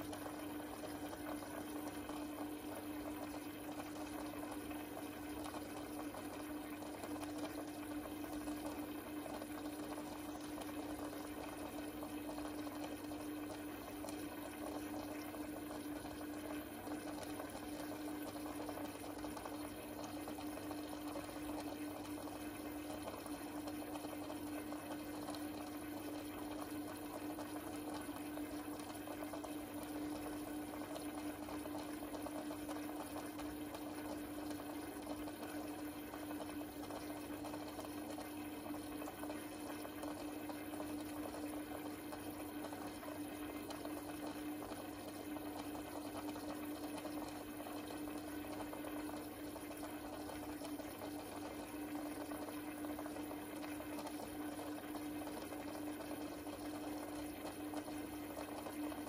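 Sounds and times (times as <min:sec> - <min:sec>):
aquarium pump humming: 0:00.0 - 0:59.0
water bubbling and trickling: 0:00.0 - 0:59.0.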